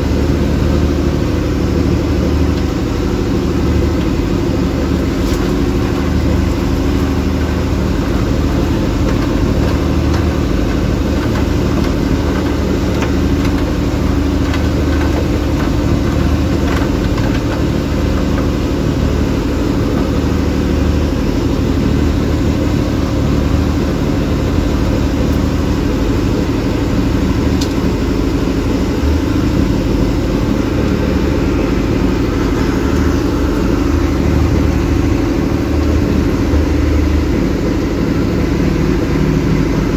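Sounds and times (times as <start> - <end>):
boat engine droning: 0.0 - 39.9
water rushing along hull: 0.0 - 39.9.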